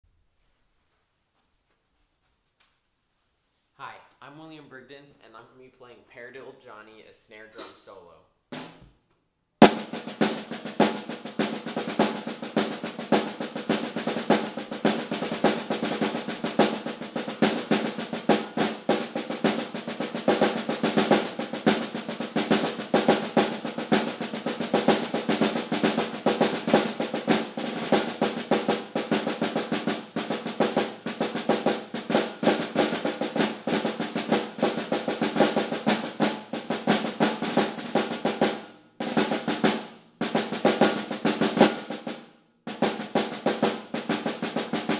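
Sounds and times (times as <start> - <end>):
snare drum rolls: 7.5 - 9.0, 9.6 - 44.9.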